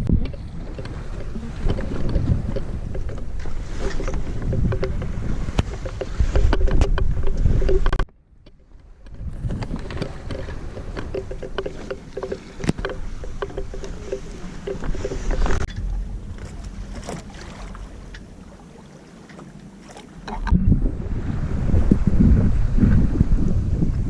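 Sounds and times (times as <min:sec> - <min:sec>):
water splashing along hull: 0:00.0 - 0:24.0.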